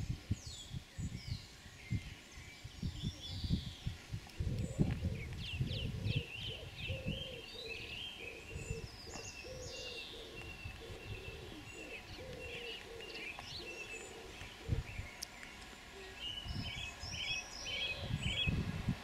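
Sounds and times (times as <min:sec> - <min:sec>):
birds chirping and trilling: 0:00.0 - 0:18.8.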